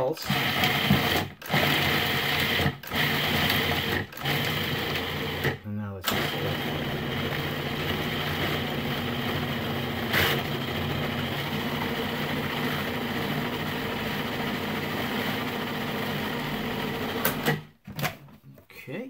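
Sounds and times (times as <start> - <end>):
food processor motor running: 0.2 - 17.7.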